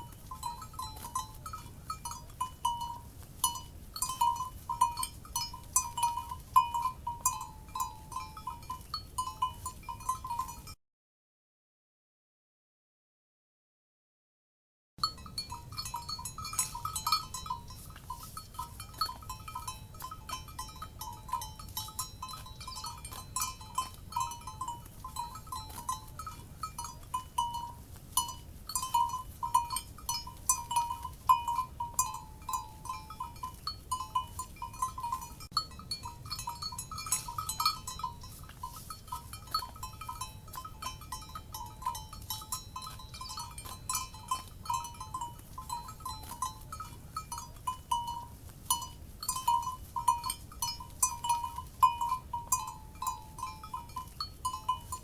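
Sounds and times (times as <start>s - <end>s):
cowbells clanking: 0.0s - 10.8s, 15.0s - 55.0s.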